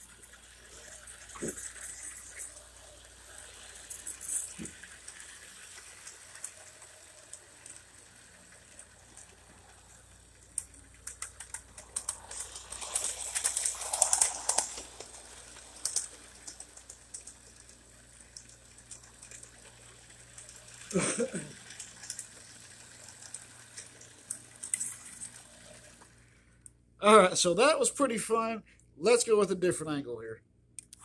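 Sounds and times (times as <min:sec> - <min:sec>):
model train wheels clicking: 0:00.0 - 0:26.3.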